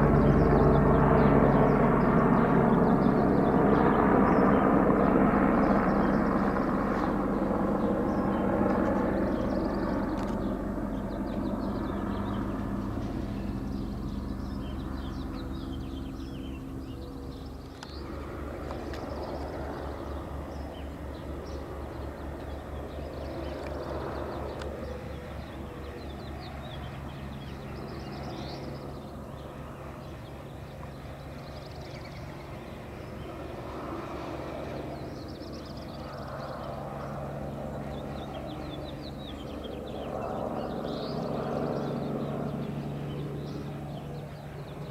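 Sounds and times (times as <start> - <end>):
birds chirping: 0.0 - 44.9
helicopter engine and rotor drone: 0.0 - 44.9.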